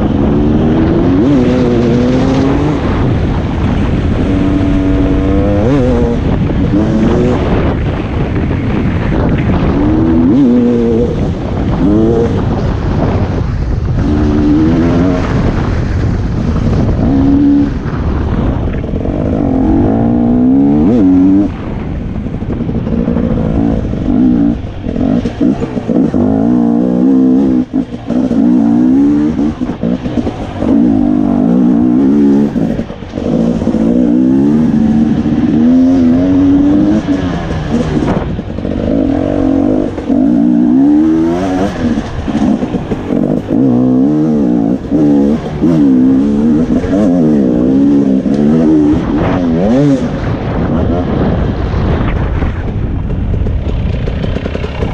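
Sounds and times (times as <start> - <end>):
dirt bike engine revving: 0.0 - 52.7, 53.3 - 54.9.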